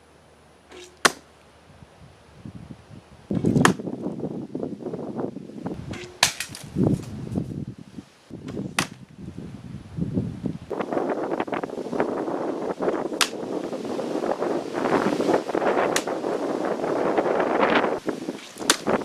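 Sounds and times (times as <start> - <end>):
wind noise on microphone: 1.6 - 19.0.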